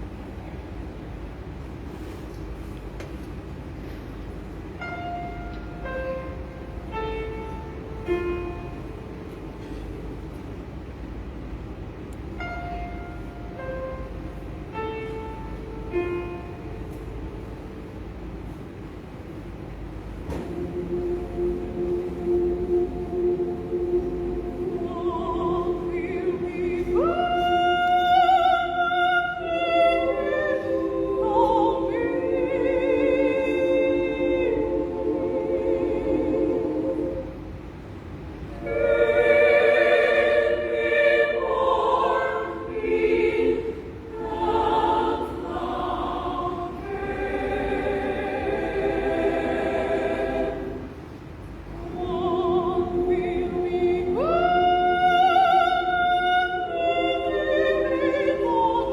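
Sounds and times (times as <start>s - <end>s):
women's choir singing: 4.8s - 10.6s, 12.3s - 18.0s, 20.0s - 58.9s.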